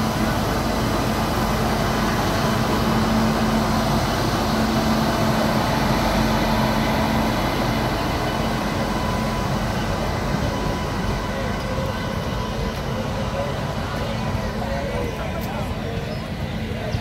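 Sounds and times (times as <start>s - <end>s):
electric locomotive rumbling past: 0.0s - 17.0s.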